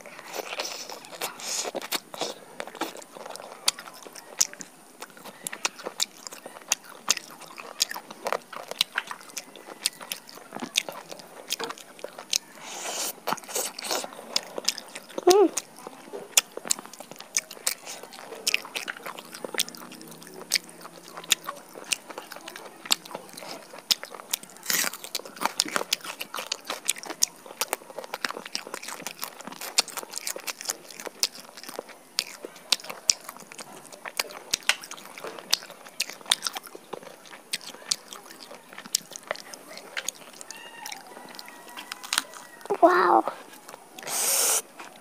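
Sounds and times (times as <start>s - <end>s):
close chewing with wet mouth sounds: 0.0s - 45.0s.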